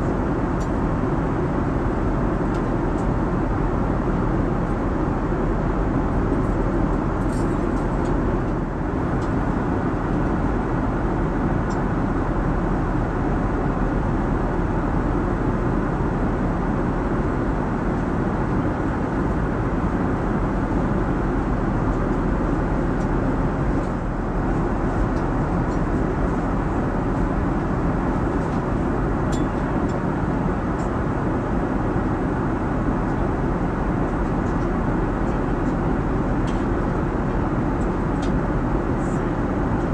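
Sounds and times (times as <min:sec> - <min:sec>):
aircraft cabin engine and airflow noise: 0:00.0 - 0:39.9.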